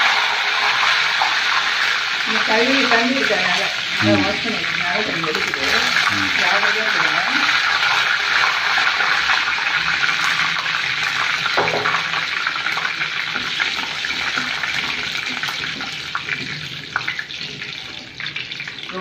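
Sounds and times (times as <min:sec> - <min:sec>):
leaves sizzling in hot oil: 0:00.0 - 0:19.0.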